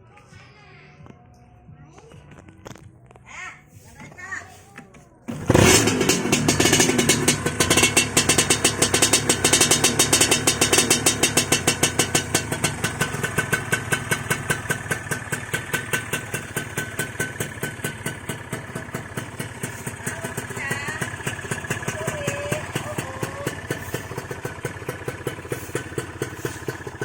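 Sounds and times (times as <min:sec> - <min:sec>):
motorcycle engine idling: 0:05.3 - 0:27.0.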